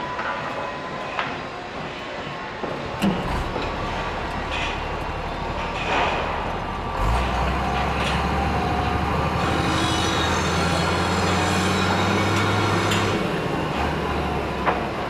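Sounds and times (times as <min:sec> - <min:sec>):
heavy vehicle engine running: 0:02.8 - 0:15.0.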